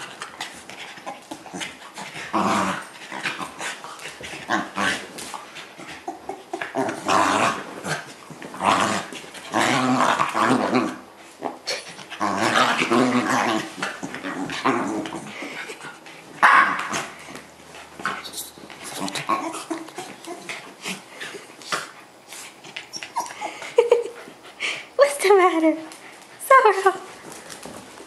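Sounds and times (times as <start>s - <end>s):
dogs growling: 0.0s - 24.8s.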